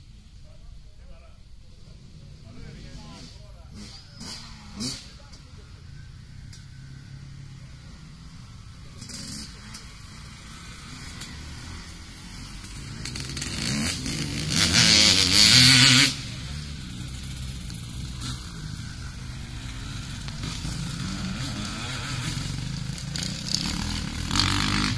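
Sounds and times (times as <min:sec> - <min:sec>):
dirt bike engines revving: 0:00.0 - 0:24.9.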